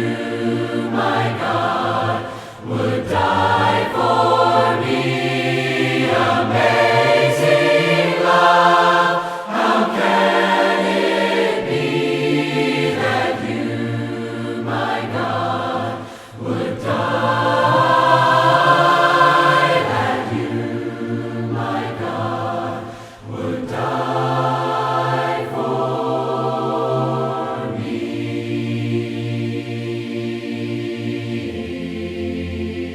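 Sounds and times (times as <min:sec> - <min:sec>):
choir singing a hymn: 0:00.0 - 0:32.9.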